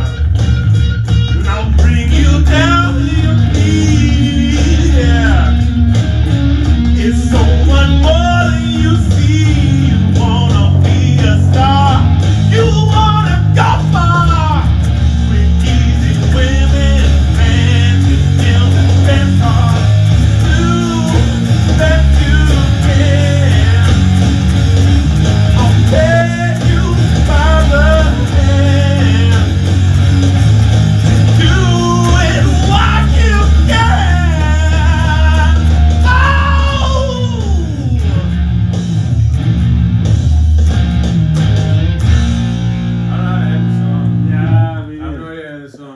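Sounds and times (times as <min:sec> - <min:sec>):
electric guitar: 0:00.0 - 0:45.3
heavy bass: 0:00.0 - 0:45.4.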